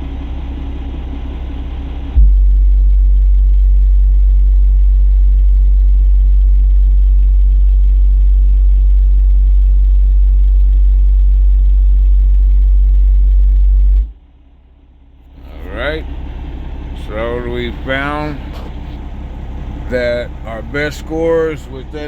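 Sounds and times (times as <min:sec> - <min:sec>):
faint pulsing buzz: 0:00.0 - 0:22.0
subwoofer bass test tone: 0:00.0 - 0:22.0.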